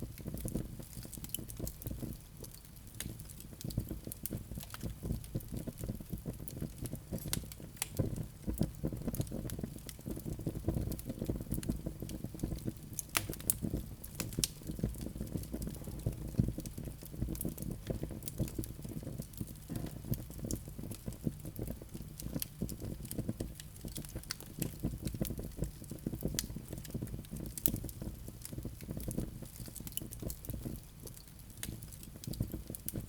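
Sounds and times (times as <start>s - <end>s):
low rumble of burning logs: 0.0s - 33.0s
wood fire crackling: 0.0s - 33.0s.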